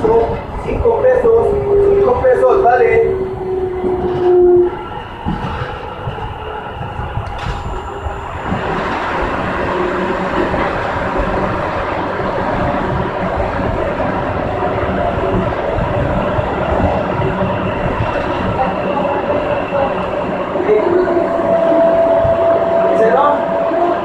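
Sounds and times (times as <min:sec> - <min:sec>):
train wheels and motors running: 0:03.1 - 0:24.0.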